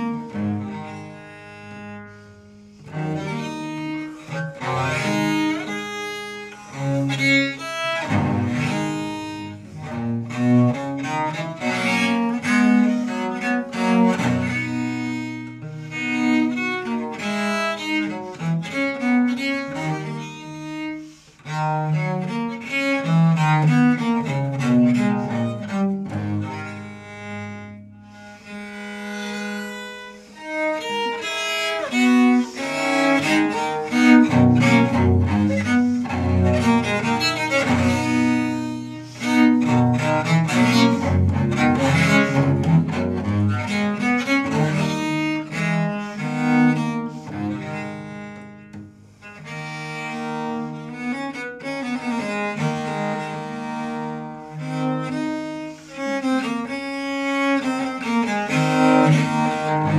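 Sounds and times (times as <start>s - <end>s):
bowed viola da gamba: 0.0s - 59.9s.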